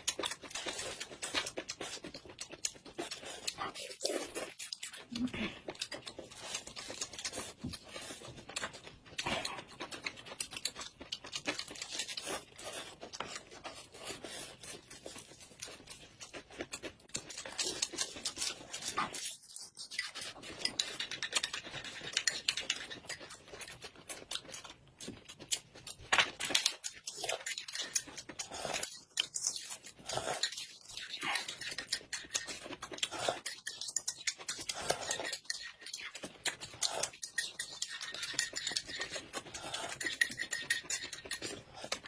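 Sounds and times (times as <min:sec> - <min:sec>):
wet chewing and lip-smacking: 0:00.0 - 0:42.0.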